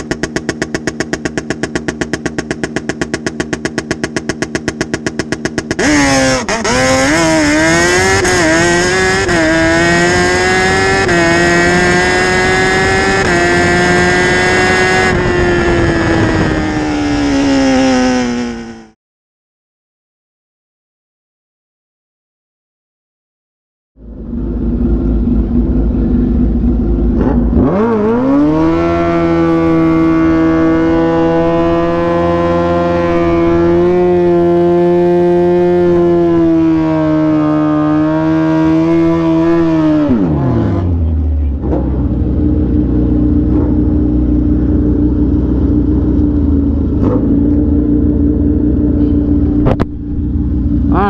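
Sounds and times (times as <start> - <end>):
motorcycle engine revving: 0.0 - 19.0, 24.0 - 51.0.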